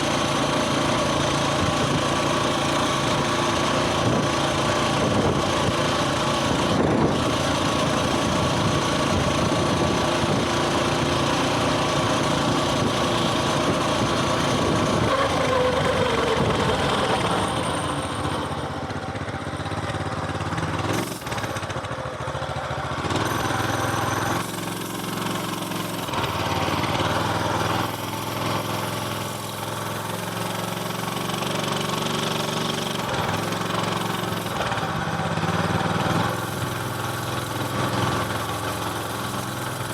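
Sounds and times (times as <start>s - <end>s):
small single-cylinder engine running: 0.0s - 39.9s.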